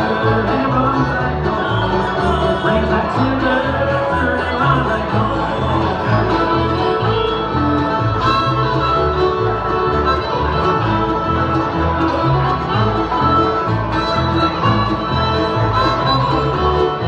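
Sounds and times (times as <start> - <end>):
banjo: 0.0 - 17.0
fiddle: 0.0 - 17.0
guitar: 0.0 - 17.0
steady bass line: 0.0 - 17.0.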